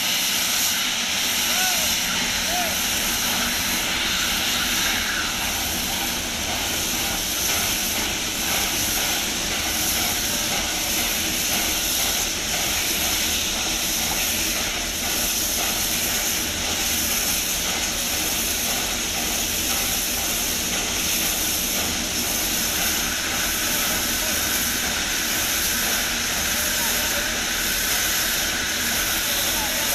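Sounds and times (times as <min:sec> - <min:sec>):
steam locomotive hissing: 0:00.0 - 0:29.9.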